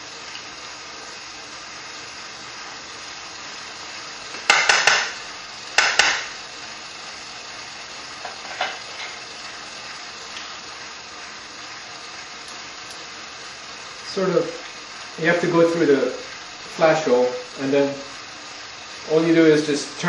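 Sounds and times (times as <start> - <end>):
machine motor running: 0.0 - 20.0.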